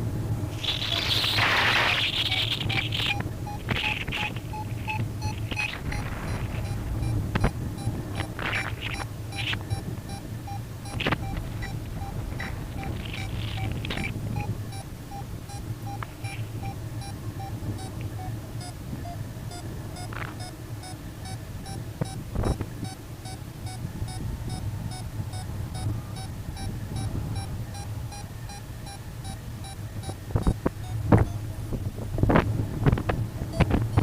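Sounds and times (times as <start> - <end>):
low wind rumble: 0.0 - 34.0
rapid electronic beeping: 0.5 - 31.5, 33.5 - 34.0.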